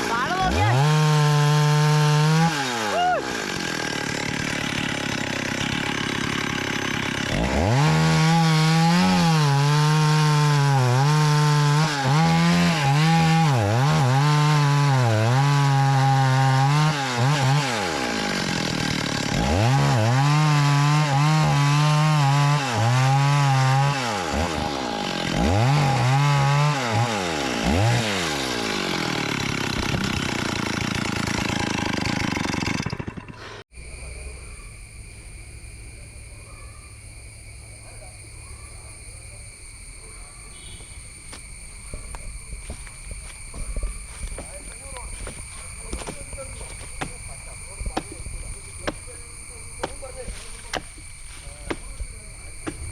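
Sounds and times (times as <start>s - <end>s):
chainsaw cutting wood: 0.0s - 33.6s, 40.8s - 52.9s.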